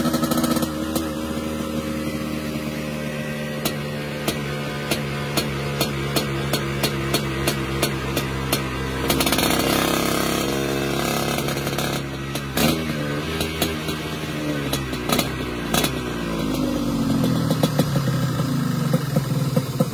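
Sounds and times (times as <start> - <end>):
scooter engine revving: 0.0 - 19.9.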